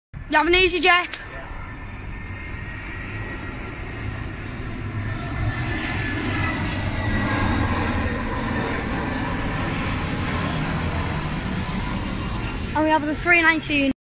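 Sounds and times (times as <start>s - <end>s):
jet airliner passing overhead: 0.2s - 14.0s.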